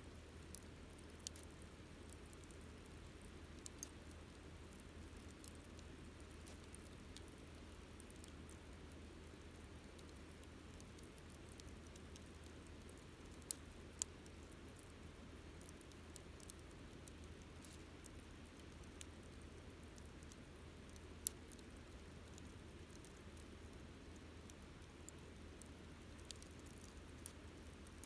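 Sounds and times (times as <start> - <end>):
burning wood crackling and popping: 0.2 - 28.0.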